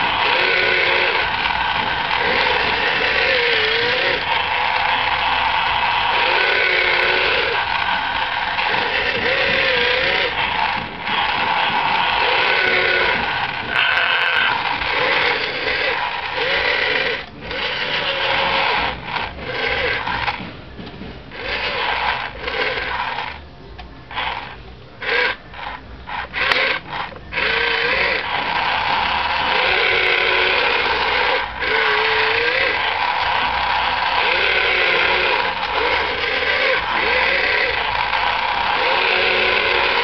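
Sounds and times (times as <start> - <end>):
toy electric motors whining: 0.0 - 40.0.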